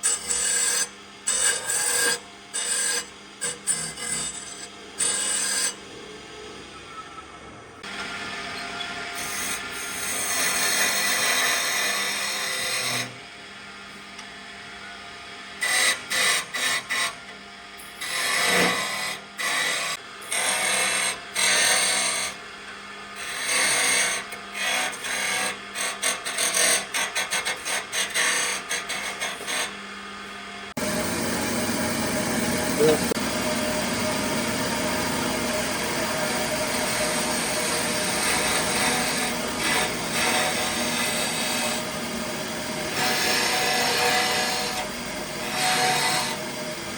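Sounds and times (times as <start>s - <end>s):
power tool cutting wood: 0.0s - 5.8s, 7.8s - 13.2s, 17.8s - 22.4s, 23.2s - 29.8s, 30.7s - 46.9s.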